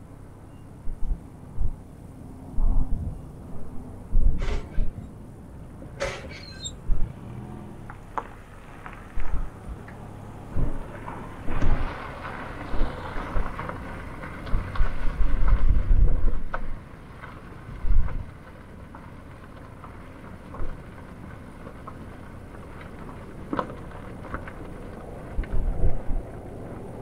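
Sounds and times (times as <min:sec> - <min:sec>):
wind buffeting microphone: 0:00.7 - 0:27.0.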